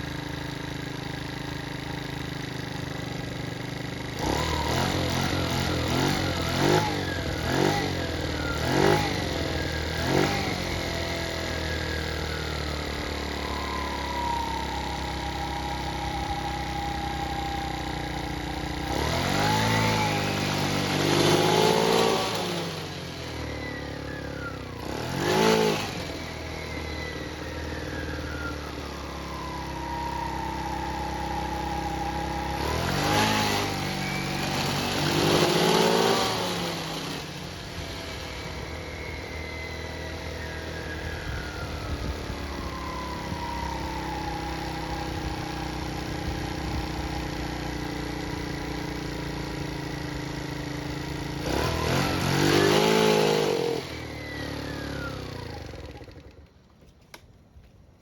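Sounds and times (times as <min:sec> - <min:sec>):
scooter engine idling and revving: 0:00.0 - 0:58.0.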